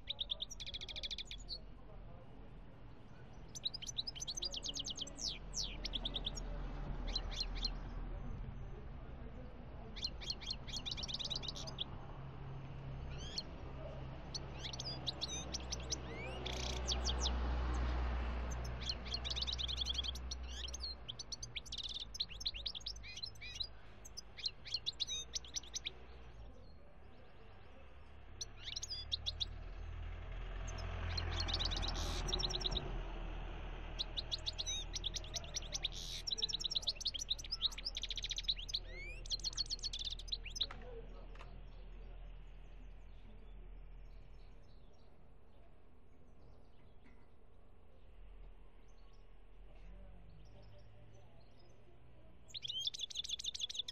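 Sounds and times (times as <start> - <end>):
bird twittering and trilling: 0.0 - 30.0, 30.6 - 33.0, 33.8 - 45.2, 48.8 - 53.9.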